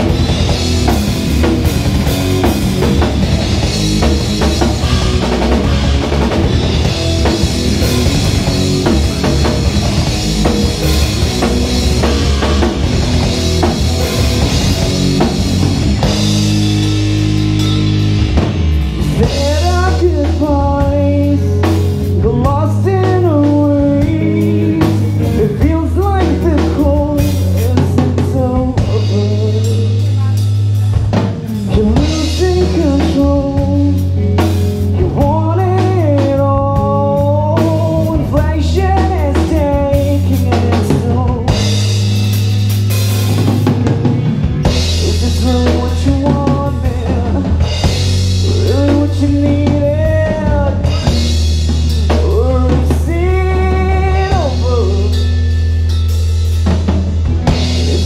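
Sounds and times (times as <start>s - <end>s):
bass line: 0.0s - 58.0s
live rock band playing: 0.0s - 58.0s
sliding lead melody: 0.0s - 58.0s.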